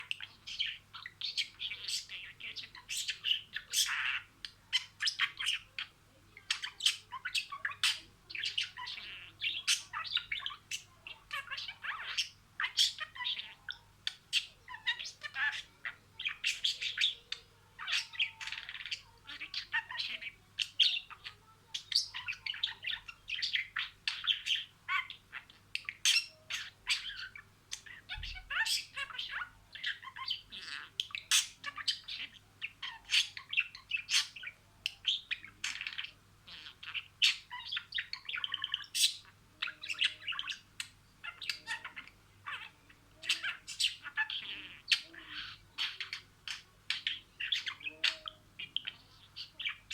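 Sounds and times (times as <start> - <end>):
budgerigar chattering: 0.0 - 49.9.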